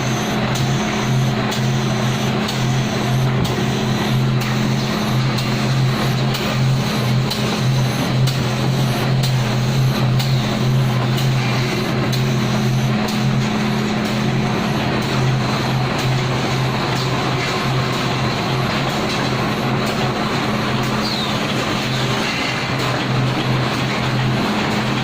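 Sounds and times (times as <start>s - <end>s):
machine motor hum: 0.0s - 25.0s
sharp machine clicks: 0.0s - 25.0s.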